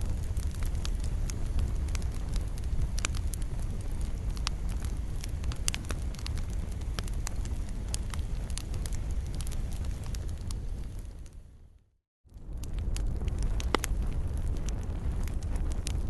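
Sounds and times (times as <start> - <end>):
campfire flame rumble: 0.0 - 16.0
fire crackling and popping: 0.0 - 16.0.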